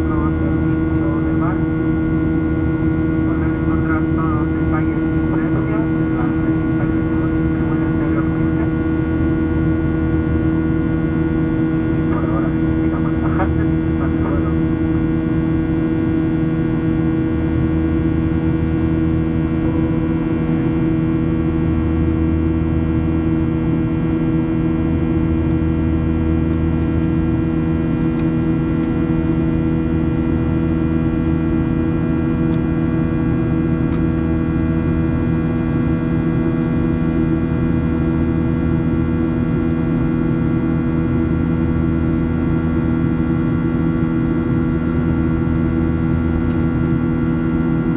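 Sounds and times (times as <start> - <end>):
deep rumble of airflow: 0.0 - 47.9
jet engines humming: 0.0 - 47.9.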